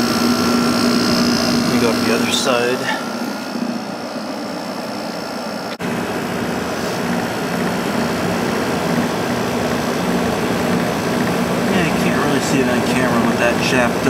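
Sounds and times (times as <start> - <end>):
window air conditioner running: 0.0 - 14.0.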